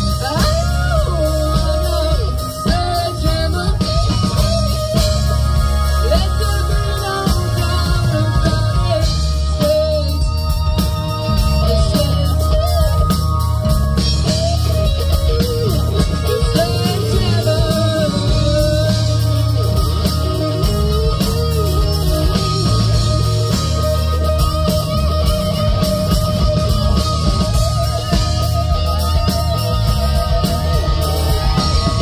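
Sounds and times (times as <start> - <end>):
bass guitar: 0.0 - 32.0
drum kit: 0.0 - 32.0
electric guitars: 0.0 - 32.0.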